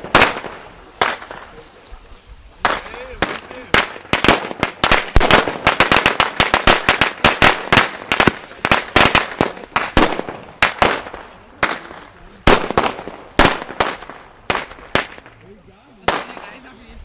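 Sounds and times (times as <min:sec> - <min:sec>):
firecrackers banging: 0:00.0 - 0:01.8, 0:02.5 - 0:16.8.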